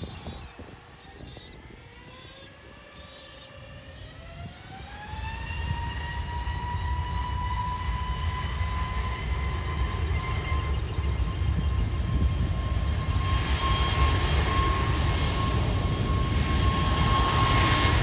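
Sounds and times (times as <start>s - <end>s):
jet engines whining: 0.0s - 18.0s.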